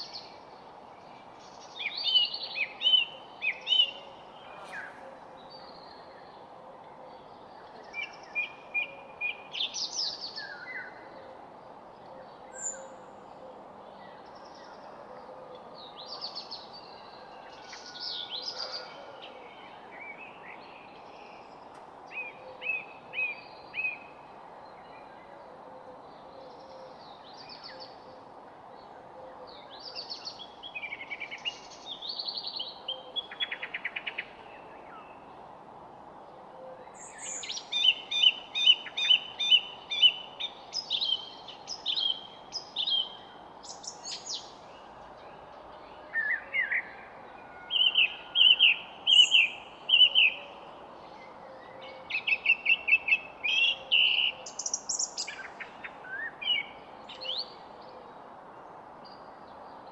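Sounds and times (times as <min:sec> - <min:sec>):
songbirds chirping and trilling: 0:00.0 - 0:59.9
steady background hiss: 0:00.0 - 0:59.9.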